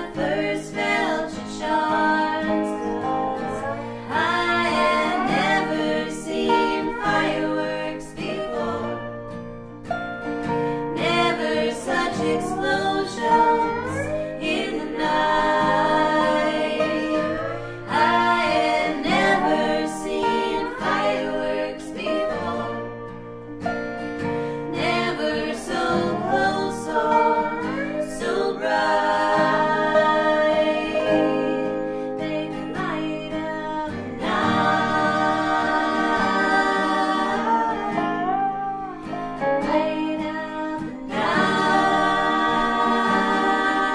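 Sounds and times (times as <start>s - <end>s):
women singing in harmony: 0.0s - 9.4s, 10.4s - 23.4s, 24.2s - 43.9s
acoustic guitar: 0.0s - 43.9s
dobro: 0.0s - 43.9s.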